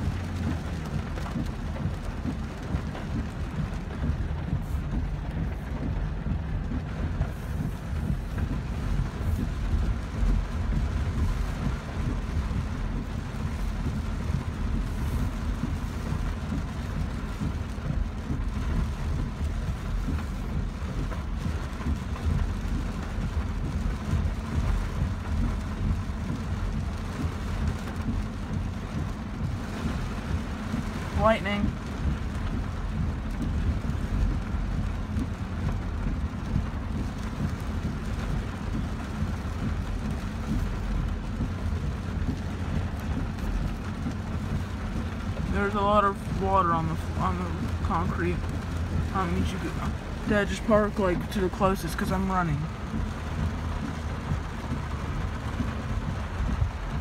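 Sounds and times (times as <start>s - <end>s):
car driving rumble: 0.0s - 57.0s
heavy rain on car roof: 0.0s - 57.0s.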